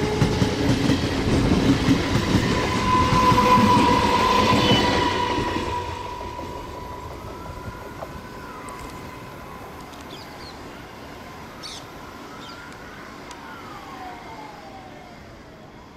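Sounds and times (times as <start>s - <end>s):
electric train whine: 0.0s - 15.9s.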